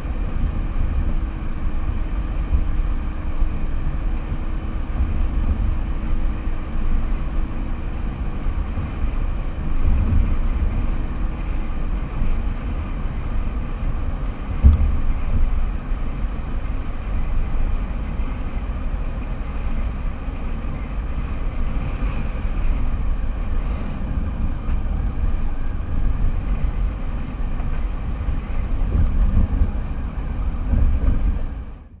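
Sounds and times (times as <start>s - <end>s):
road and wind rumble: 0.0s - 32.0s.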